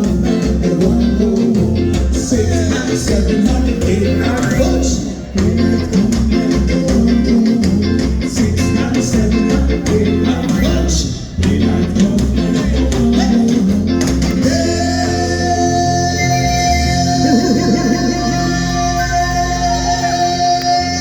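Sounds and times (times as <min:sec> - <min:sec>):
bass guitar: 0:00.0 - 0:21.0
drums: 0:00.0 - 0:21.0
ska band playing live: 0:00.0 - 0:21.0.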